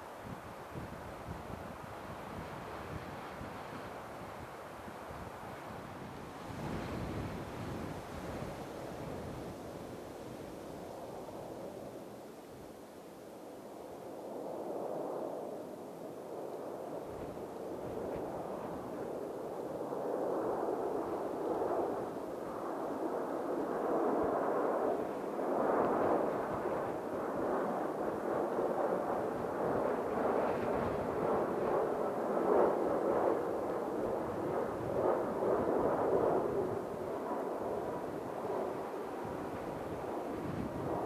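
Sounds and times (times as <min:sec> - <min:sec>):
jet engine rumble: 0:00.0 - 0:41.0.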